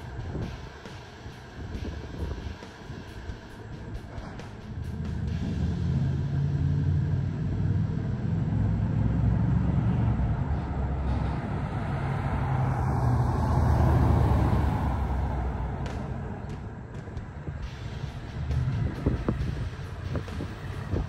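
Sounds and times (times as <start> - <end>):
car engine driving by: 0.0 - 21.0.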